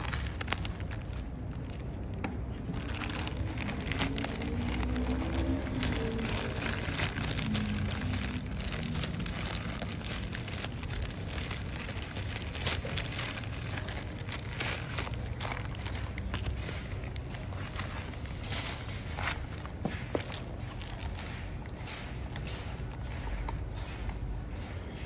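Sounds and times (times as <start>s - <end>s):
plastic mailer bag crinkling: 0.0s - 24.7s.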